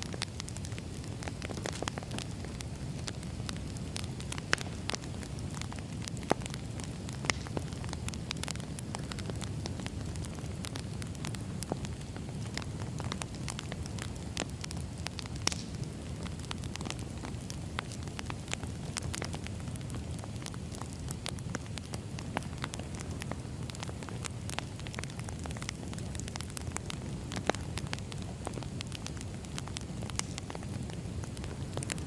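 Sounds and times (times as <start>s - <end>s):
loud fire pops: 0.0s - 32.0s
wood fire crackling: 0.0s - 32.0s.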